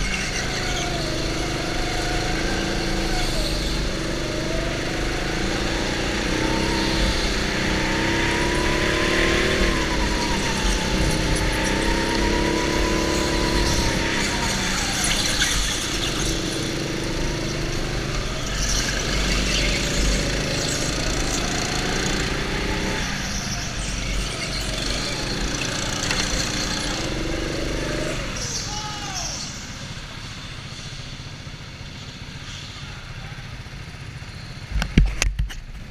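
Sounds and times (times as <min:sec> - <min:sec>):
go-kart motor revving: 0:00.0 - 0:32.8
other karts running: 0:00.0 - 0:35.9.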